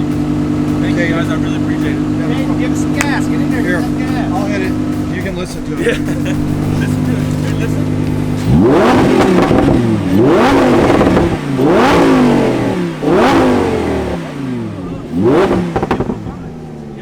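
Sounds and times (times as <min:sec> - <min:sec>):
car engine revving from idle: 0:00.0 - 0:17.0.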